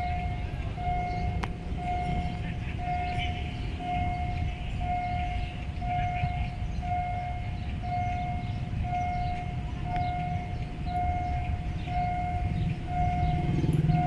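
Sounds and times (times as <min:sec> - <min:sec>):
level crossing signal beeping: 0:00.0 - 0:14.0.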